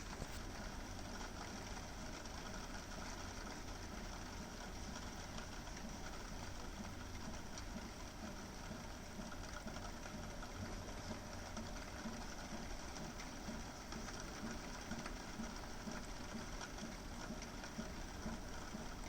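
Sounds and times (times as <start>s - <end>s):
rain drop ticks: 0.0s - 19.0s
rain falling: 0.0s - 19.0s.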